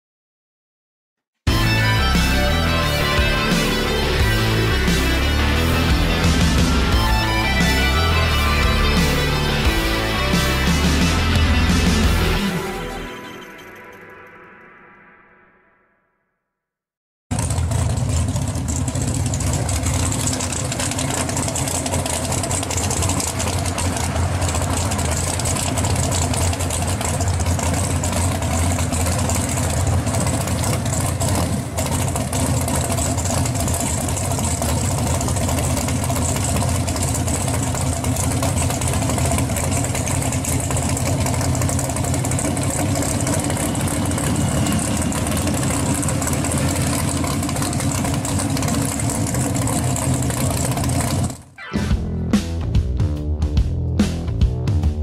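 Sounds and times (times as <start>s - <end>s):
car engine idling: 1.5s - 13.1s, 17.3s - 52.5s.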